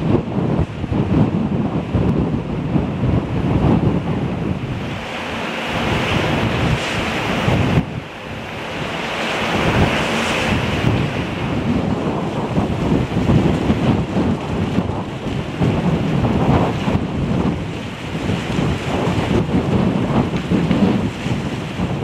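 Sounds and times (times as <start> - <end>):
choppy water washing: 0.0 - 22.0
wind buffeting microphone: 0.0 - 22.0.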